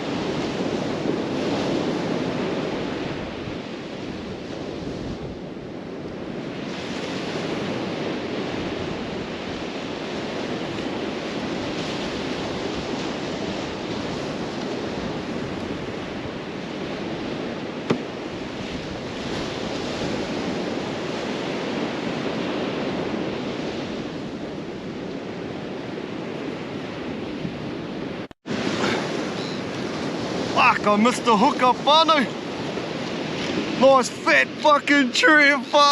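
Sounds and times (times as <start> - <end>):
surf washing onto beach: 0.0 - 35.9
wind on microphone: 0.0 - 35.9.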